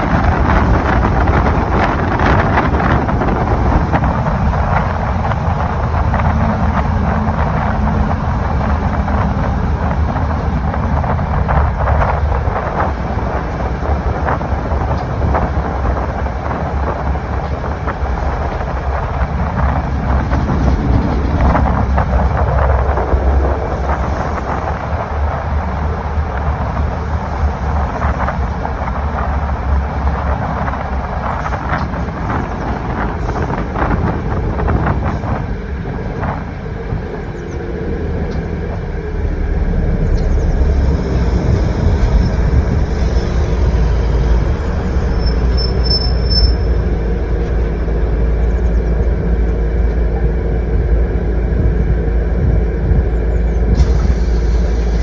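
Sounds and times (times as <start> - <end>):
heavy vehicle rumbling: 0.0 - 55.0.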